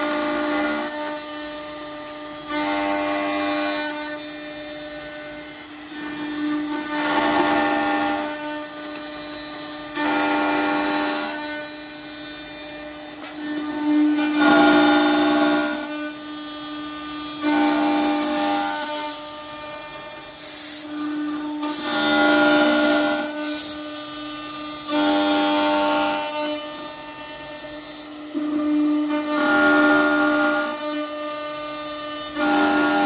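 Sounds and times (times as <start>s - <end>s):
cutter cutting through wood: 0.0s - 33.0s
drilling machine motor whine: 0.0s - 33.0s.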